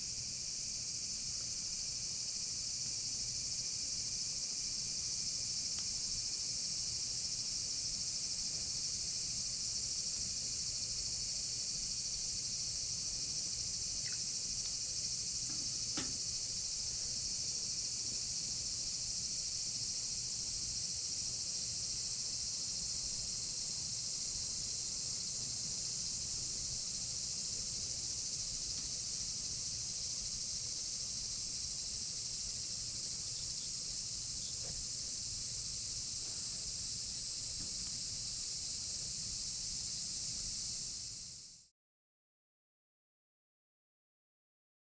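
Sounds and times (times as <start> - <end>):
crickets and insects chirping: 0.0 - 41.7.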